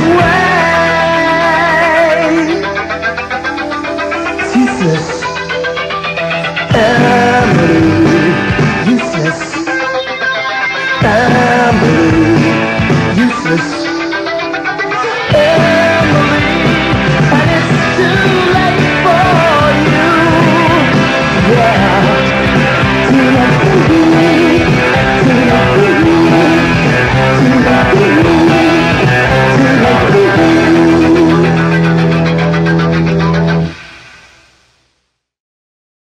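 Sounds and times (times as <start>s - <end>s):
bass: 0.0s - 10.0s, 10.8s - 34.4s
keyboards: 0.0s - 34.6s
electric guitars: 0.0s - 34.7s
drums: 0.0s - 35.0s.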